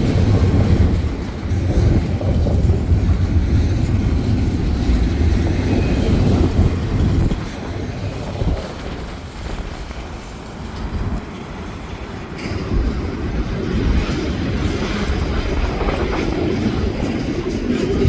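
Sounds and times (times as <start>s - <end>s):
freight train rumble: 0.0s - 18.0s
train wheel clatter: 0.0s - 18.0s.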